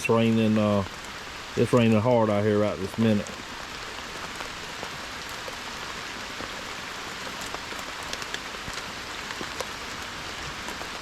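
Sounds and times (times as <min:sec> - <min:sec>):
heavy rain pouring: 0:00.0 - 0:11.0
raindrops ticking: 0:00.0 - 0:11.0.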